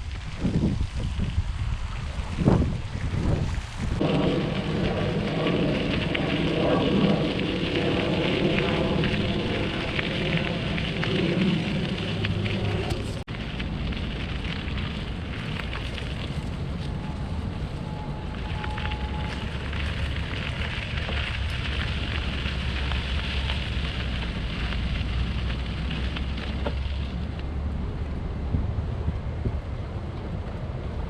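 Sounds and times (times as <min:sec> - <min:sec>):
bicycle tyres crackling on path: 0:00.0 - 0:31.0
wind buffeting microphone: 0:00.0 - 0:31.0.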